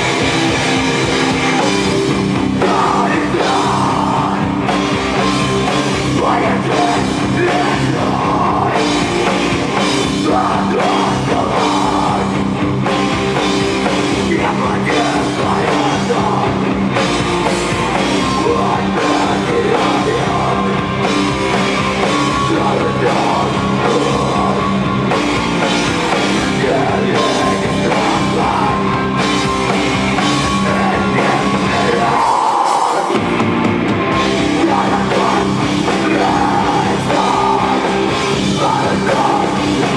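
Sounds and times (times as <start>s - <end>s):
distorted guitar: 0.0s - 39.9s
drums: 0.0s - 39.9s
rock band playing live: 0.0s - 39.9s.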